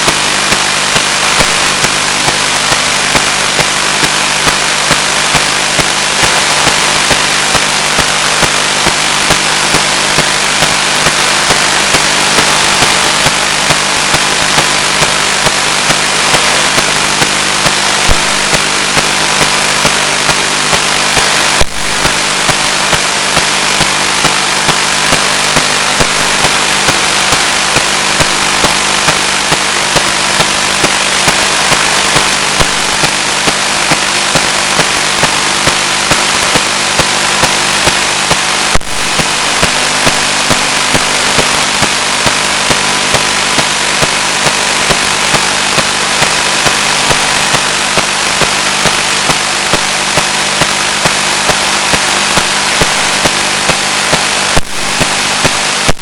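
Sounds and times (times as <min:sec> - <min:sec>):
loud static hiss: 0:00.0 - 0:56.0.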